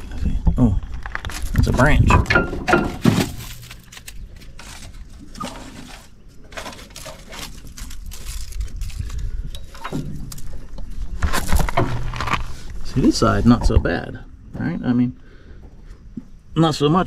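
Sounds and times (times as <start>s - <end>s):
rustling and crackling grass: 0.0s - 13.8s.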